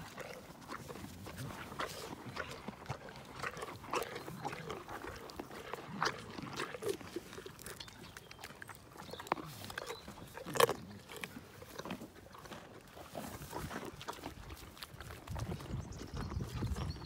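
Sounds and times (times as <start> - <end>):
pony chewing carrot crunches: 0.0 - 17.0.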